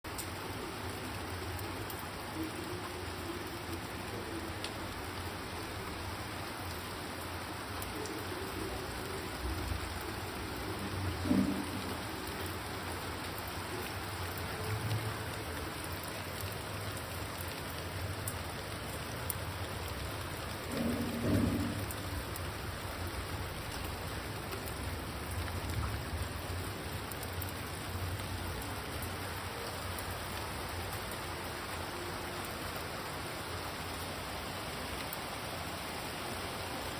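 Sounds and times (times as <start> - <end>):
rain falling on plants: 0.1 - 36.9.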